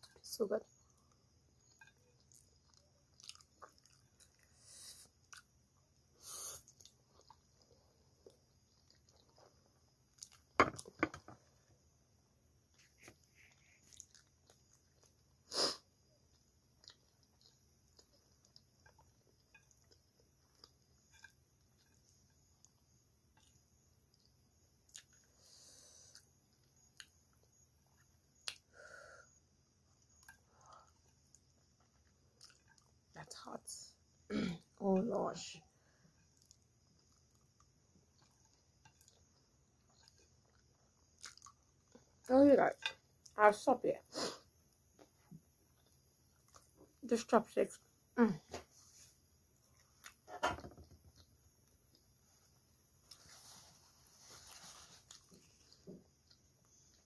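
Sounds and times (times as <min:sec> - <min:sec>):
person chewing pasta: 0:00.0 - 0:11.6, 0:12.4 - 0:33.2, 0:35.8 - 0:43.4, 0:44.4 - 0:46.9, 0:51.1 - 0:57.0
faint eating sounds: 0:00.0 - 0:57.0.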